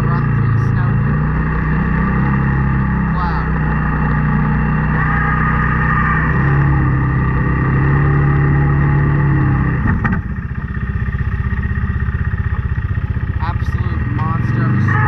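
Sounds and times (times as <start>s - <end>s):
snow-clearing machine engine running: 0.0s - 15.0s.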